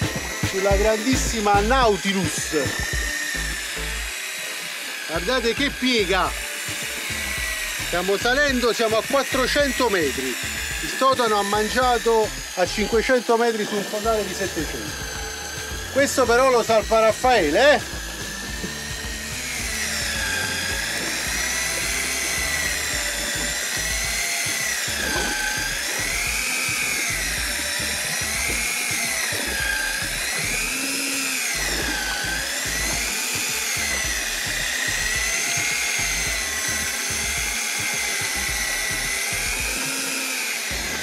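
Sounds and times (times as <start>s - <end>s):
electric reel motor whining: 0.0s - 41.0s.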